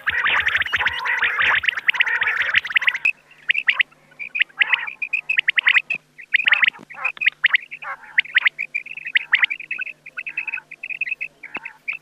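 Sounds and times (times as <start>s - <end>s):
quail calling: 0.0s - 12.0s.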